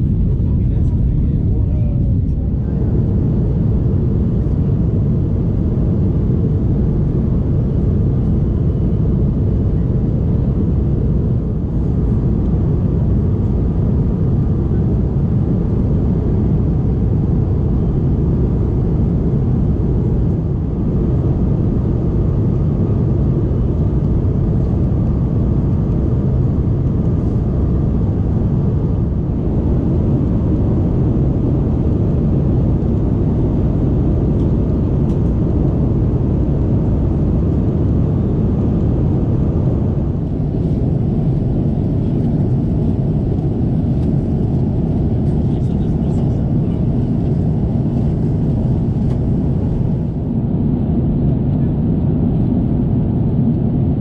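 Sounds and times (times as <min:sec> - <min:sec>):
airplane cabin roar in flight: 0:00.0 - 0:54.0.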